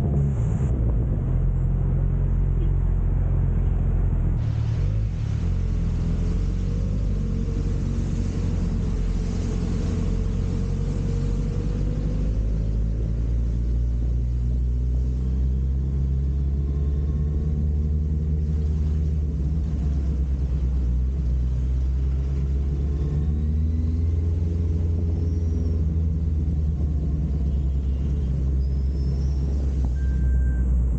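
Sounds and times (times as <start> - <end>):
motorcycle engine rumble: 0.0 - 30.9
road and wind noise: 0.0 - 30.9.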